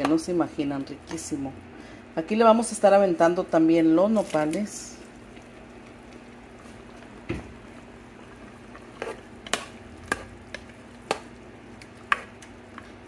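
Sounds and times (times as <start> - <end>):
faint hum: 0.0 - 13.0
pots bubbling on stove: 0.0 - 13.0.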